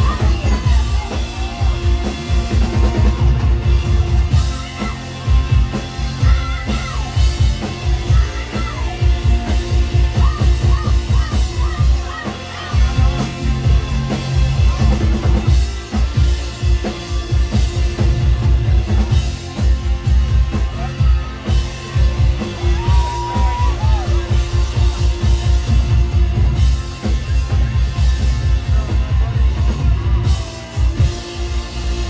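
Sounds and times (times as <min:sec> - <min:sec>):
drum kit fast beat: 0:00.0 - 0:32.0
live rock band playing: 0:00.0 - 0:32.0.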